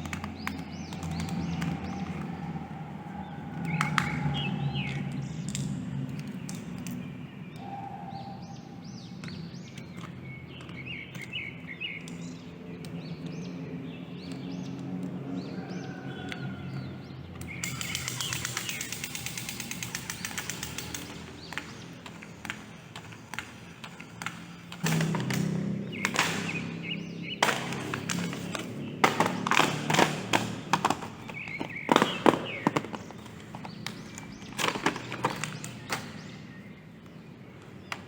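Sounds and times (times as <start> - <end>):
plastic toys clicking and knocking: 0.0 - 2.8, 3.5 - 7.7, 9.2 - 13.5, 14.2 - 38.0
faint background music: 0.0 - 38.0.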